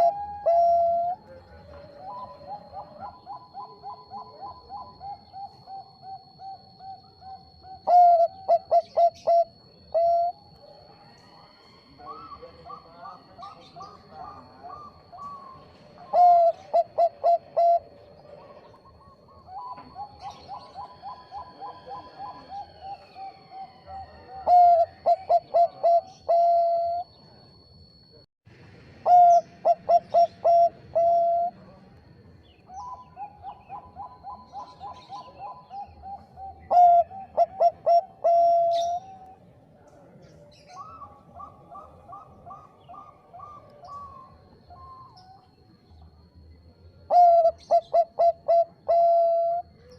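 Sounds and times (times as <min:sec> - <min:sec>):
dove cooing: 0:00.0 - 0:27.7, 0:29.0 - 0:31.8, 0:32.6 - 0:39.4, 0:40.5 - 0:45.6, 0:47.0 - 0:49.9
faint high whine: 0:00.0 - 0:49.9.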